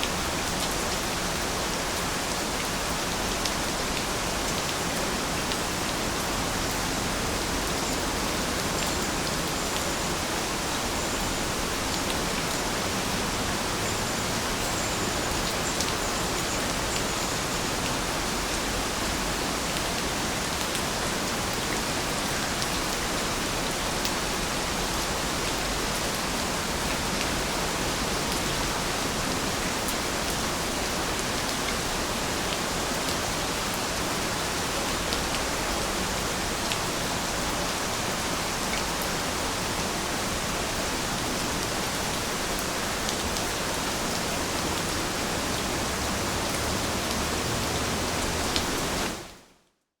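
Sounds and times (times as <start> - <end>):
steady rainfall: 0.0 - 49.6.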